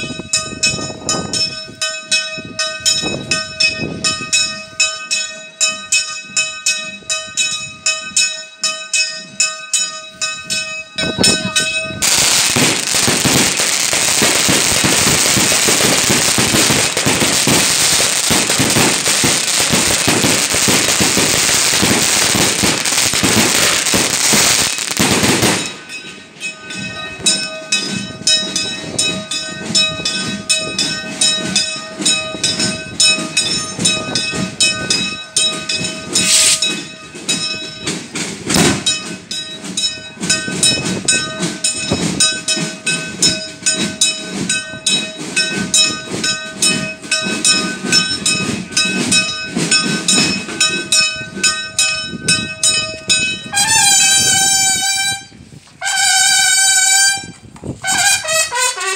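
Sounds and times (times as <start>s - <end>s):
bell ringing: 0.0s - 57.4s
firecrackers crackling: 11.1s - 51.6s, 52.2s - 58.9s.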